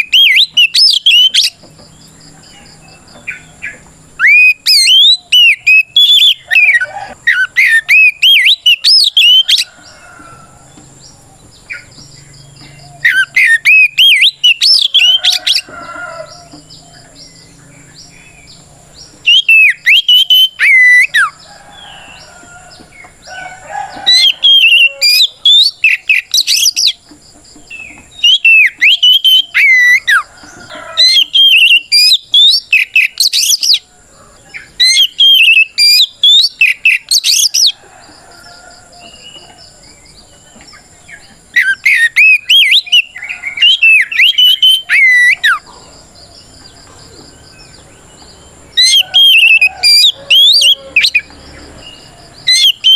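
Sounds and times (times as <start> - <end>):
bird whistled song: 0.0 - 10.4, 11.0 - 27.0, 27.6 - 33.9, 34.5 - 45.8, 48.7 - 52.9.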